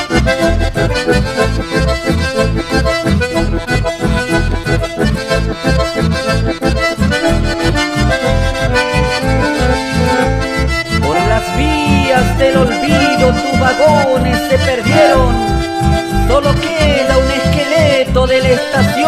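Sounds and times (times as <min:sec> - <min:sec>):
sliding melodic notes: 0:00.0 - 0:19.0
steady bass beat: 0:00.0 - 0:19.0
sustained lead melody: 0:00.0 - 0:19.0.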